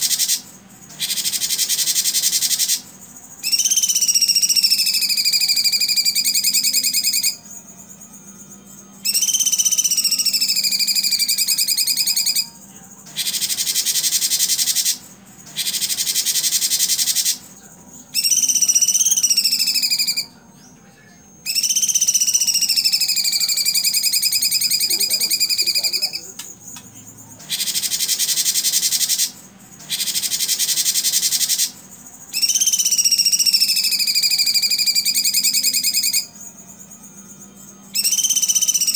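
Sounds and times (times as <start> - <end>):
bird whistling: 0.0 - 2.8, 3.4 - 7.4, 9.0 - 12.5, 13.1 - 17.5, 18.1 - 26.5, 27.4 - 36.4, 37.9 - 38.9
faint steady hum: 0.0 - 38.9.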